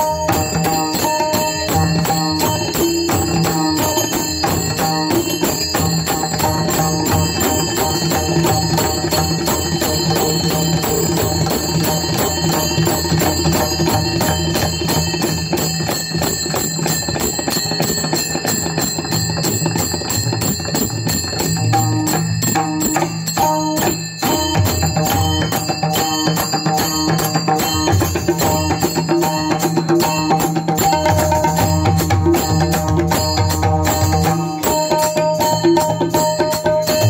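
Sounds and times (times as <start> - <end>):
fast hand drumming: 0.0 - 37.0
metallic ringing: 0.0 - 37.0.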